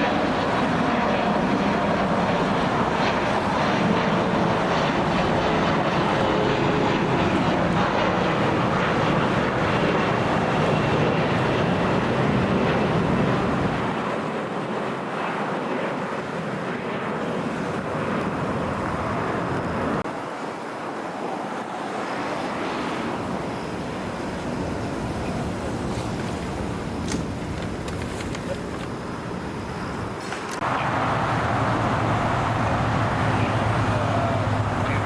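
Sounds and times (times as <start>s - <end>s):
jet engine rushing: 0.0s - 35.0s.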